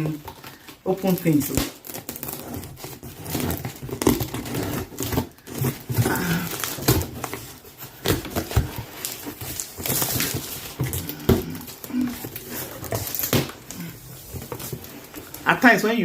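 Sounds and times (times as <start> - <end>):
cardboard and plastic rustling: 0.0 - 16.0.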